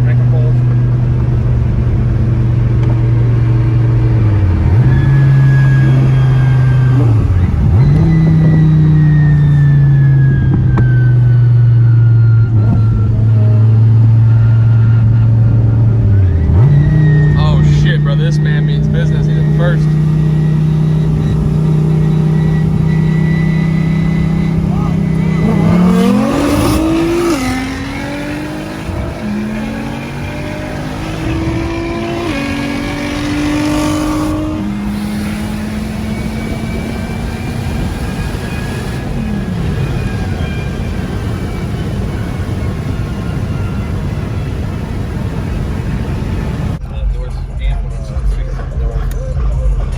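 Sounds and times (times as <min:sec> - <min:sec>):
car engine droning: 0:00.0 - 0:49.9.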